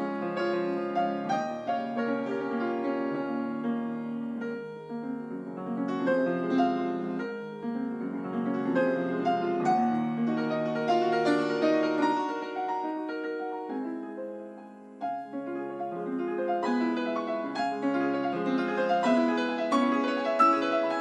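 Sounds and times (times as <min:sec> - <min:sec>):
soft piano music: 0:00.0 - 0:21.0.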